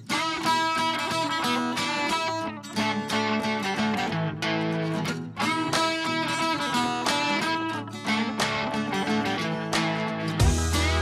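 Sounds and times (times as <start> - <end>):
strummed guitar music: 0.0 - 11.0.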